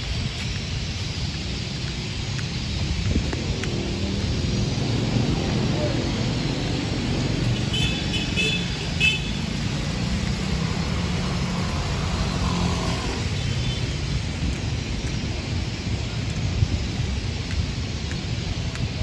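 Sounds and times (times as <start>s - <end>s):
traffic on wet street: 0.0s - 19.0s.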